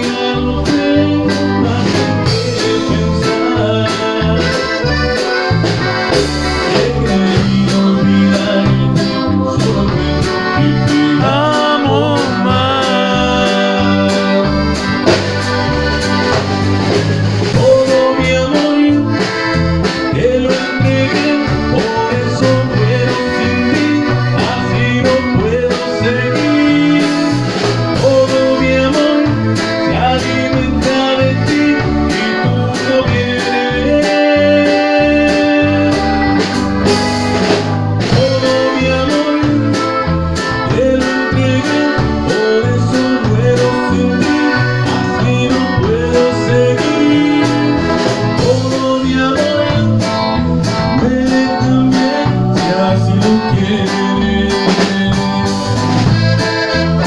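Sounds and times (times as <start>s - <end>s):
man singing into a microphone: 0.0s - 15.3s, 16.4s - 57.0s
button accordion: 0.0s - 57.0s
steady beat: 0.0s - 57.0s.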